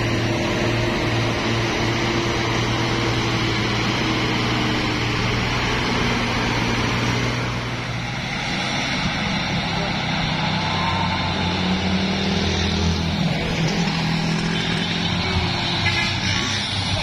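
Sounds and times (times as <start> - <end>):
road noise: 0.0 - 17.0
truck diesel engine: 0.0 - 17.0.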